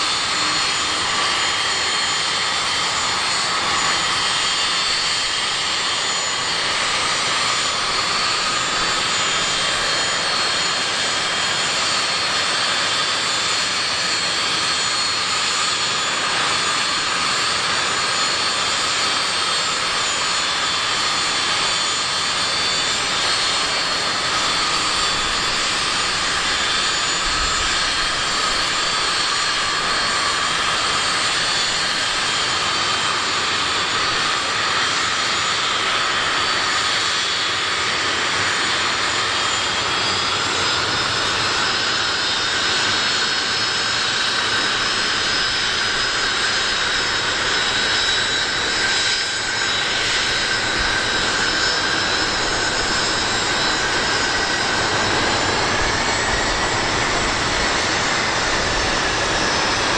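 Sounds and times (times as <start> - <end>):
jet turbines idling: 0.0 - 59.9.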